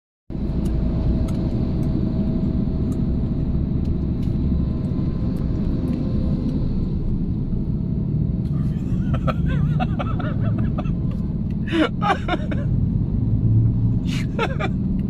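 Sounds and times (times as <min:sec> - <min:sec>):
vehicle rumble from cab: 0:00.3 - 0:15.0.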